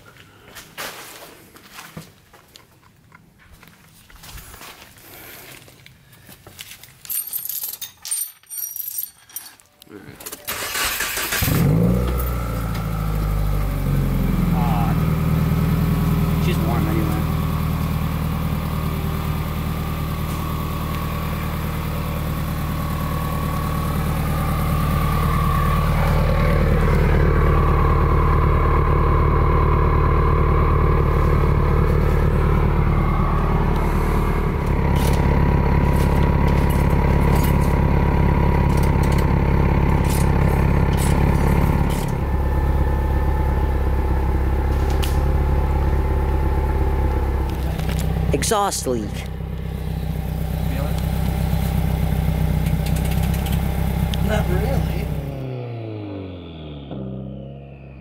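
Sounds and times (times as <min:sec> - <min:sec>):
car engine idling: 0:10.4 - 0:58.0.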